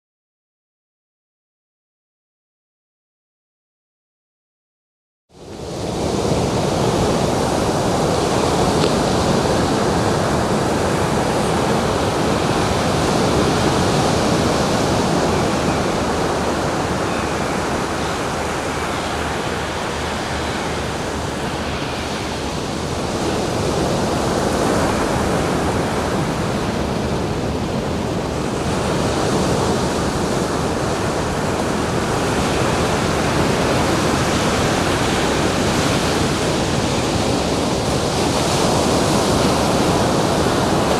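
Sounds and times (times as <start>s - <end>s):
waves washing on a beach: 5.4s - 40.9s.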